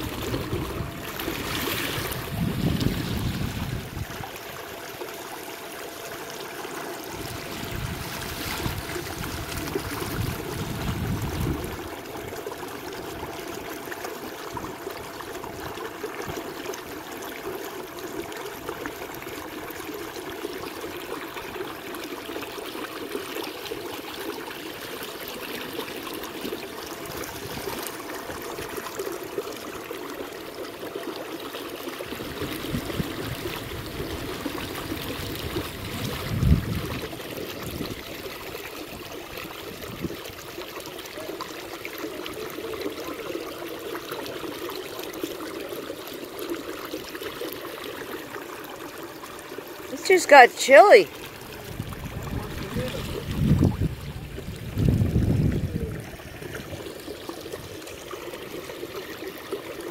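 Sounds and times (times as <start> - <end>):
water rushing along kayak hull: 0.0 - 23.9, 31.6 - 59.9.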